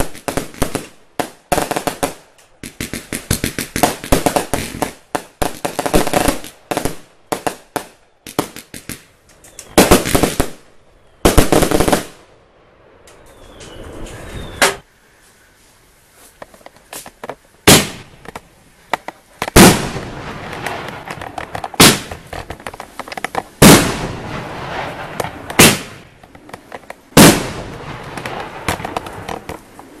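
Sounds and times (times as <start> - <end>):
fireworks bangs: 0.0 - 10.6, 11.2 - 12.3, 17.2 - 30.0
fireworks crackling: 0.0 - 12.3, 16.2 - 30.0.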